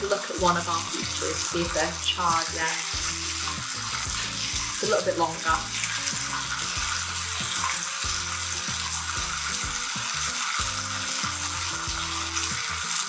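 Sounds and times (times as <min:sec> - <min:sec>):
background music: 0:00.0 - 0:13.0
fruit sizzling on a griddle: 0:00.0 - 0:13.0.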